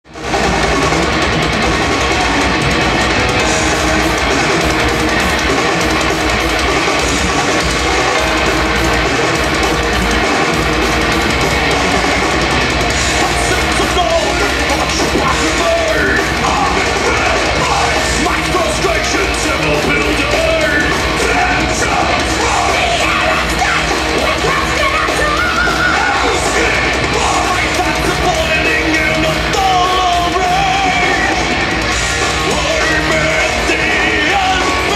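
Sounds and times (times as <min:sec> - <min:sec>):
heavy metal band playing live: 0:00.0 - 0:34.9
person singing: 0:03.4 - 0:31.6, 0:32.2 - 0:34.9.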